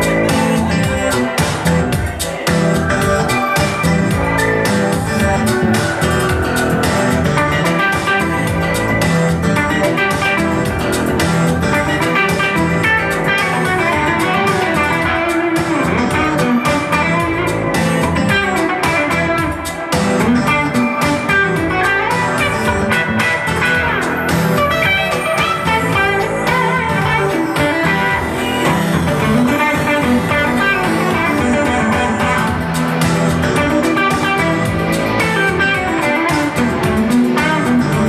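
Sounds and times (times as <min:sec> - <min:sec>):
bass guitar: 0:00.0 - 0:38.0
electric guitar: 0:00.0 - 0:38.0
percussion hits: 0:00.0 - 0:38.0.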